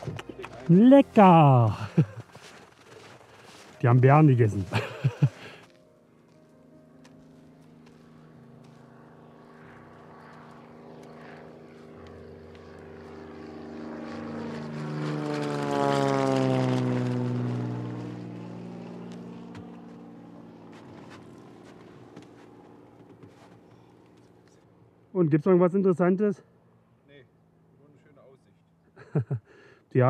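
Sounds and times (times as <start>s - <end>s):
propeller airplane engine drone: 0.0s - 29.9s.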